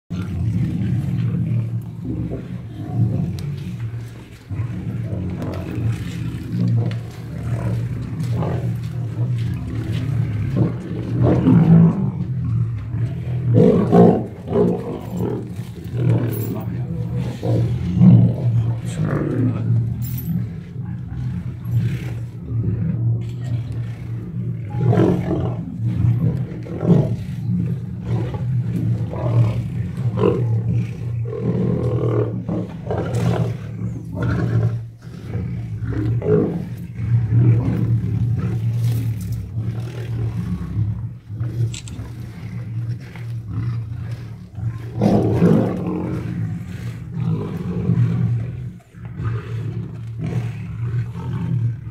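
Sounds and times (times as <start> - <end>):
lions growling and snarling: 0.1 - 51.9.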